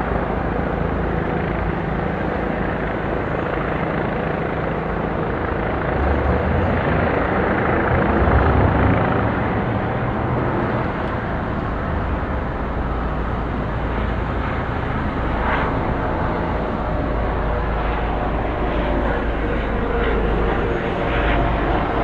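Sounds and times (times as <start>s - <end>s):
city background noise: 0.0s - 22.0s
helicopter rotor rumble: 0.0s - 22.0s.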